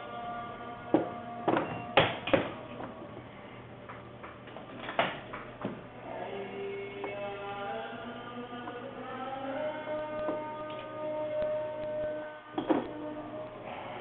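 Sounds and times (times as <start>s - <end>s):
faint background music: 0.0s - 4.3s, 4.9s - 14.0s.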